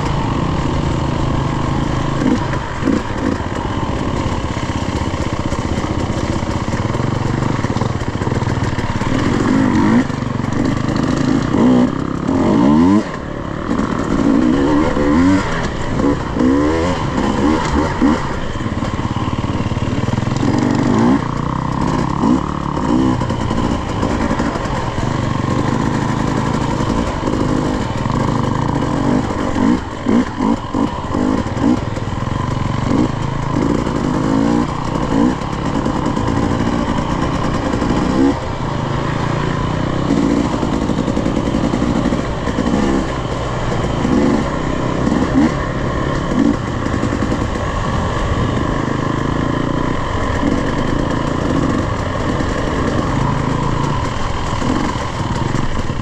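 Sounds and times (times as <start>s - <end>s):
clatter: 0.0s - 56.0s
dirt bike engine revving: 0.0s - 56.0s.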